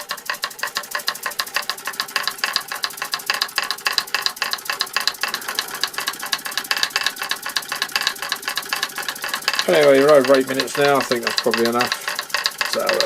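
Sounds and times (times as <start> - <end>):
model steam hammers tapping: 0.0 - 13.0.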